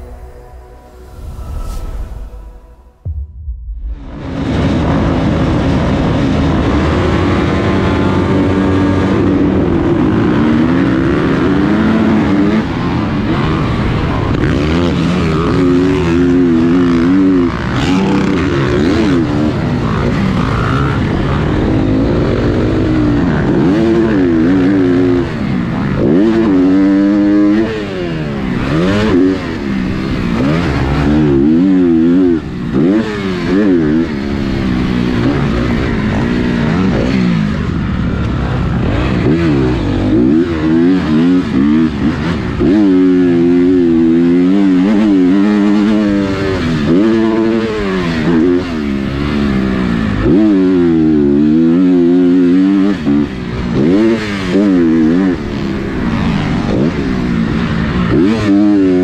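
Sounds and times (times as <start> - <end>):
other motorbikes running: 4.1 - 59.0
motocross bike revving: 4.2 - 59.0.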